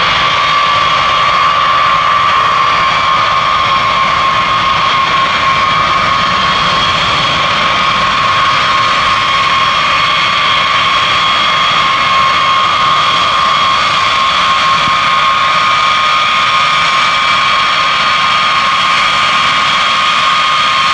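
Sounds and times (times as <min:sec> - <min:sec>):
jet engine whine: 0:00.0 - 0:20.9.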